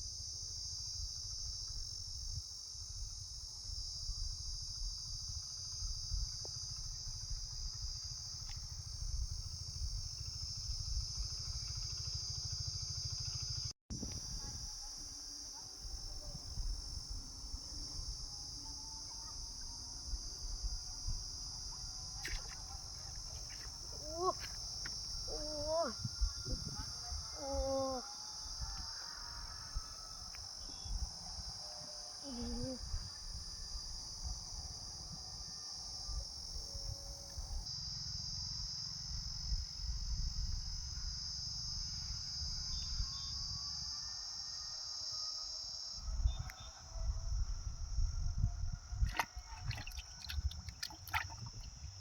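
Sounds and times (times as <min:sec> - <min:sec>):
crickets chirring: 0:00.0 - 0:52.0
insect chorus: 0:00.0 - 0:52.0.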